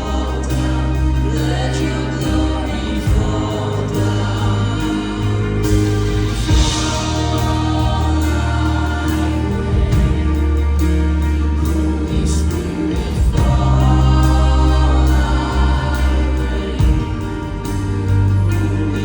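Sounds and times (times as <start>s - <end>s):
bass and keyboard chords: 0.0s - 19.0s
choir singing: 0.0s - 19.0s
drum and cymbal strokes: 0.0s - 19.0s.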